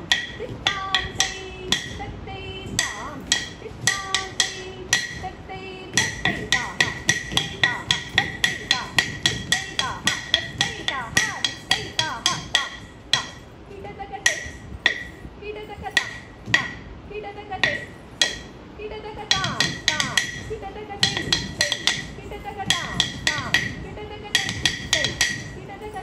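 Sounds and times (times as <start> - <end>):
ringing percussive strikes: 0.0 - 17.0, 17.6 - 26.0
sung or called syllables: 0.0 - 26.0.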